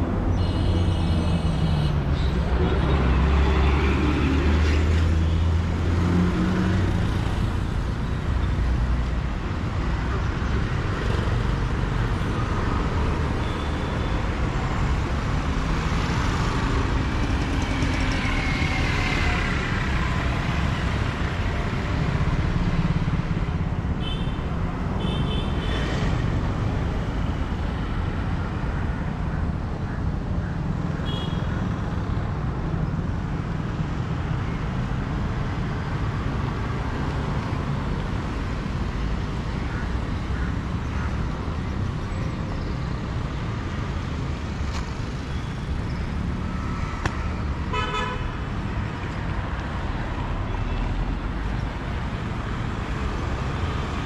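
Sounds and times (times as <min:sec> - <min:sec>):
road traffic: 0:00.0 - 0:54.0.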